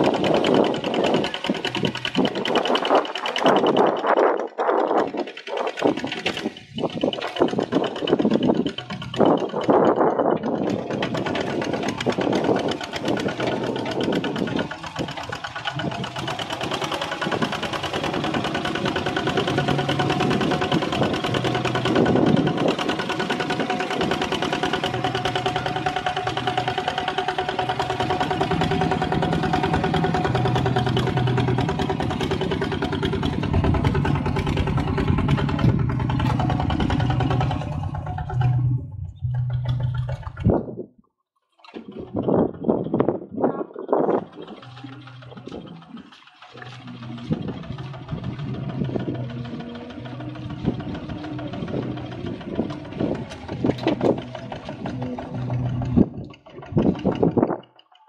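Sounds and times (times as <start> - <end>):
diesel engine running under load: 0.0 - 40.9, 41.7 - 58.0.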